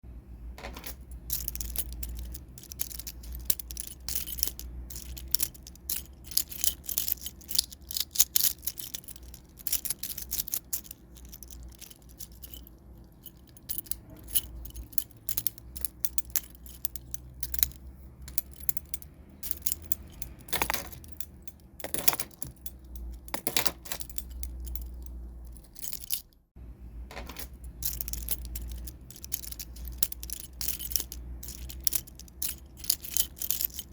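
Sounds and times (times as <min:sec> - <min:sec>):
metal keys jingling: 0:00.6 - 0:26.4, 0:27.1 - 0:33.9.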